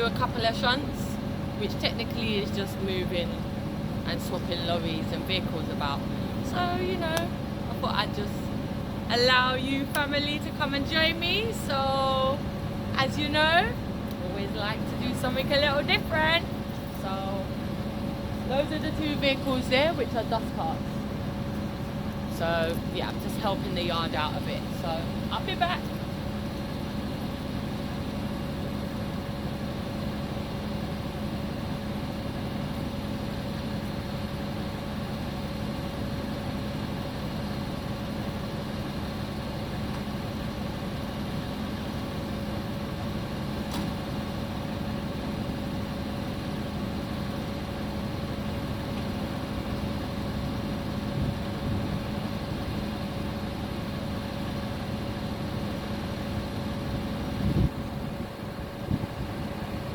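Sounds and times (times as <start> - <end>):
truck engine humming: 0.0 - 59.9.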